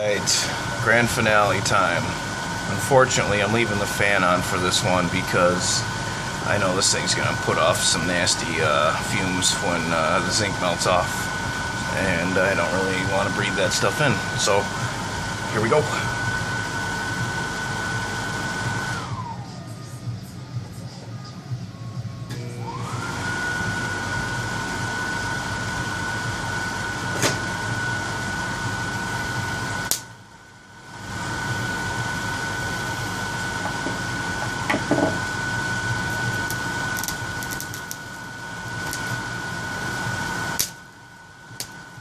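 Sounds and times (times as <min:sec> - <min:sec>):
transformer hum and hiss: 0:00.0 - 0:22.5, 0:23.8 - 0:42.0
high whine: 0:00.0 - 0:22.9, 0:27.0 - 0:42.0.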